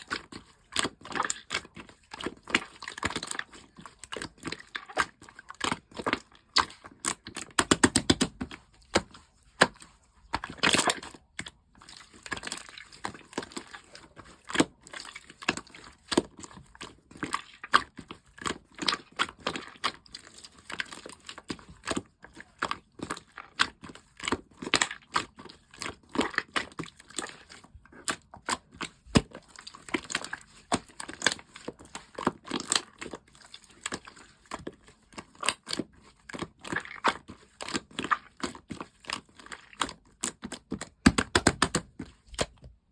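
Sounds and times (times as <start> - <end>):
hands squishing slime: 0.0 - 42.9.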